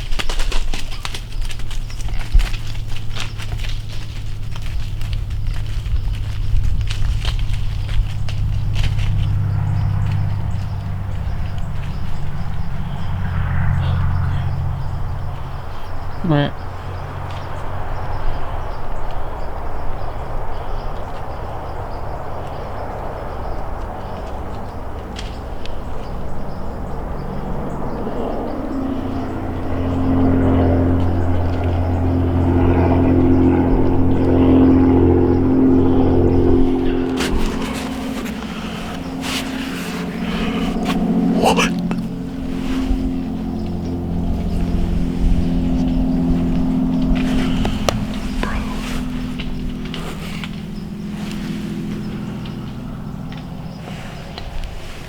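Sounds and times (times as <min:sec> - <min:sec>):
droning engine hum: 0:00.0 - 0:55.0.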